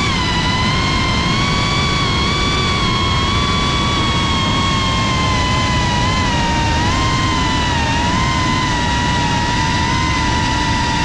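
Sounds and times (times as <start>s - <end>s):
drone propellers whining: 0.0s - 11.0s
steady rushing noise: 0.0s - 11.0s.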